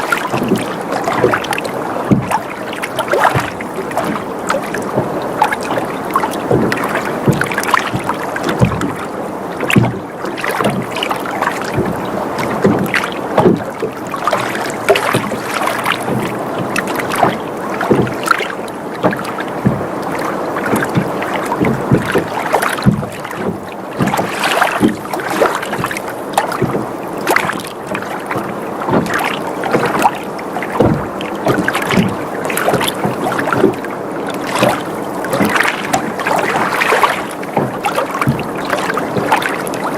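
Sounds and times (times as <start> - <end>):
boat knocks: 0.0 - 39.9
water lapping against boat hull: 0.0 - 39.9.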